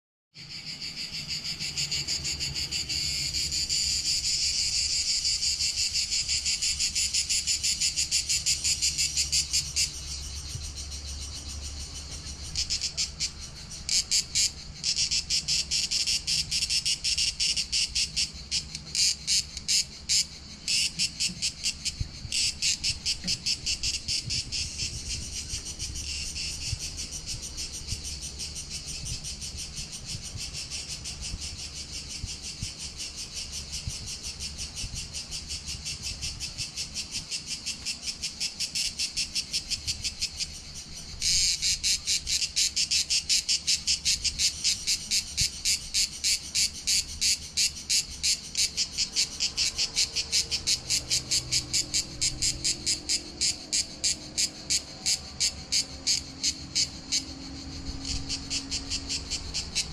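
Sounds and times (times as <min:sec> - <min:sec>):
cicadas buzzing: 0:00.4 - 0:59.9.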